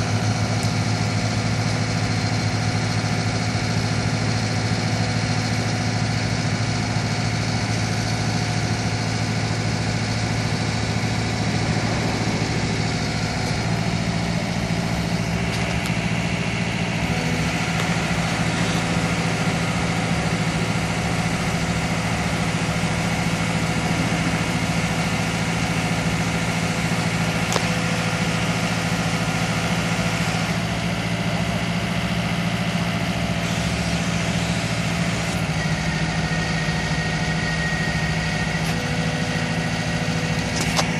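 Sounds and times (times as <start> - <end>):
boom lift engine running: 0.0 - 40.9.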